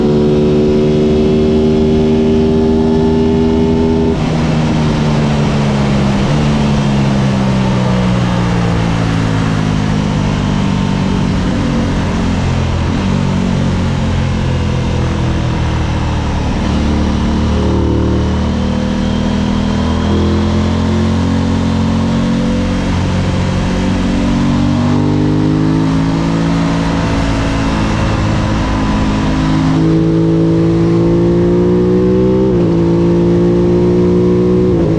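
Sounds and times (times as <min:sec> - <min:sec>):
motorcycle engine at speed: 0:00.0 - 0:34.9.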